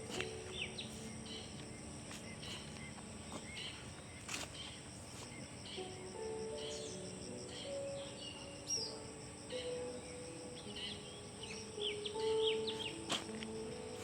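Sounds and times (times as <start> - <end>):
bird chirps: 0.0 - 14.0
high insect drone: 0.0 - 14.0.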